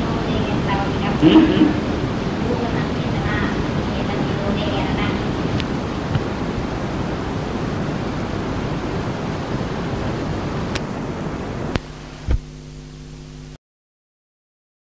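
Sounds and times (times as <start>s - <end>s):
faint electrical hum: 0.0s - 13.6s
recording background hiss: 0.0s - 13.6s.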